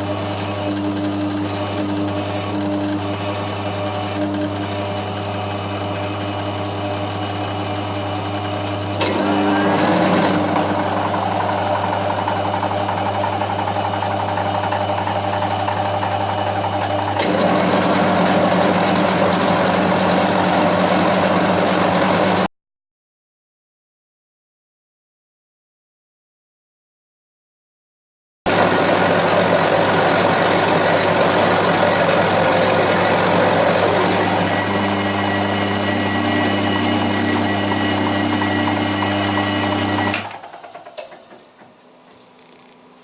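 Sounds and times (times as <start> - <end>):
milling machine cutting metal: 0.0 - 22.5, 28.5 - 42.0.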